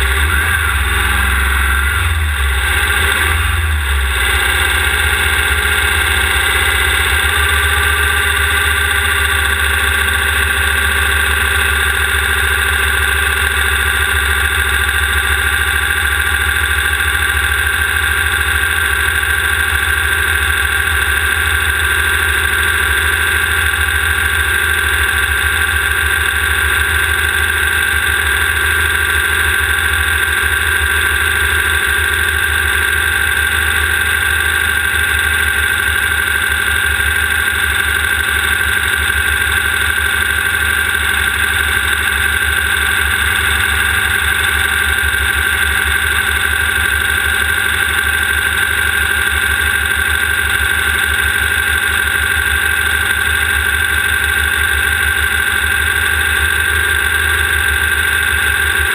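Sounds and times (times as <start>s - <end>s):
race car engine running: 0.0s - 58.9s.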